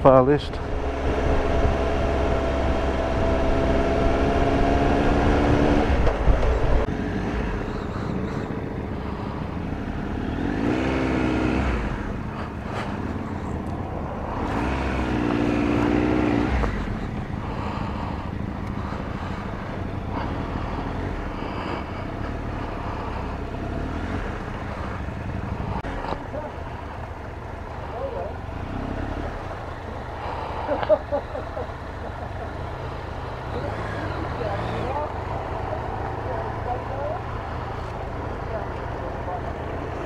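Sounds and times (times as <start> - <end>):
motorcycle engine accelerating: 0.0 - 40.0
wind and road noise: 0.0 - 40.0.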